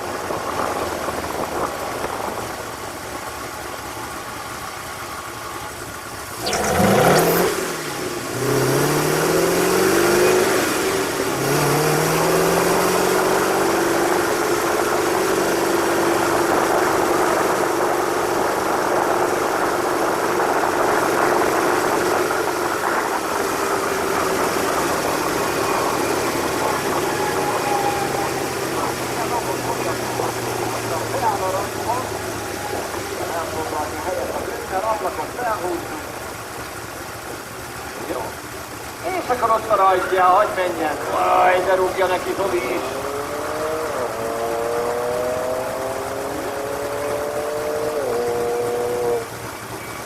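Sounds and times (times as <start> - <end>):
race car engine at full throttle: 0.0 - 50.0.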